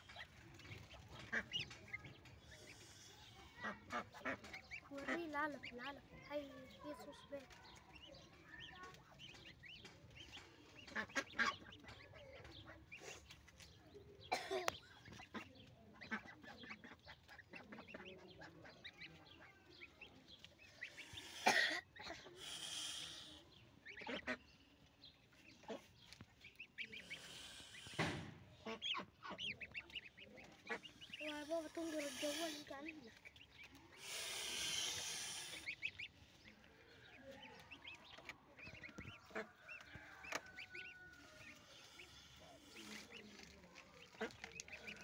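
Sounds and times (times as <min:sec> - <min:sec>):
goslings peeping: 0:00.0 - 0:45.0.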